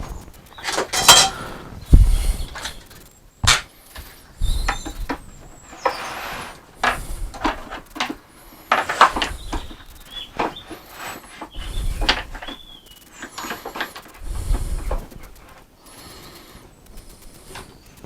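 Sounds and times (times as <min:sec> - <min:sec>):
wooden knocks and scrapes: 0:00.0 - 0:16.2.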